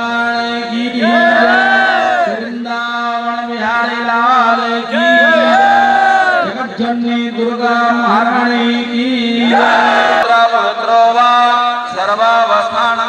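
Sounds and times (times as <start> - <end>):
hymn singing over loudspeakers: 0.0 - 13.0.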